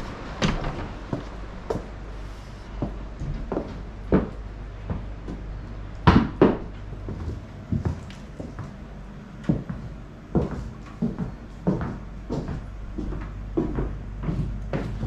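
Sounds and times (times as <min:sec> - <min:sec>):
low steady hum: 0:00.0 - 0:15.0
footsteps on wooden floor: 0:00.4 - 0:15.0.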